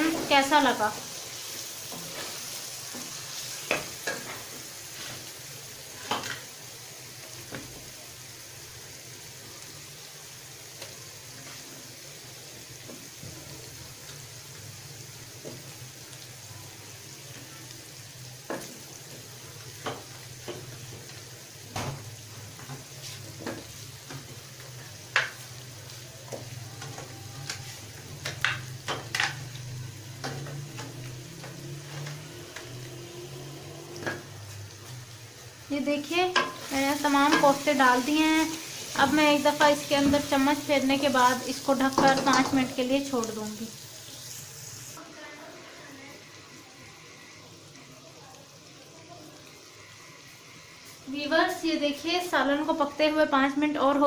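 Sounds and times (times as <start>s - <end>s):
low sizzle in oil: 0.0s - 54.0s.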